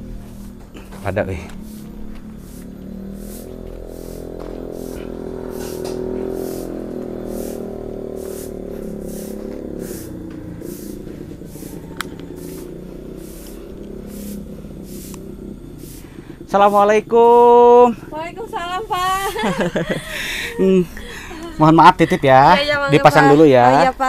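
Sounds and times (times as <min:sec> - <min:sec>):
broom sweeping dirt floor: 0:00.0 - 0:17.8, 0:18.9 - 0:21.4
low hum: 0:00.0 - 0:24.0.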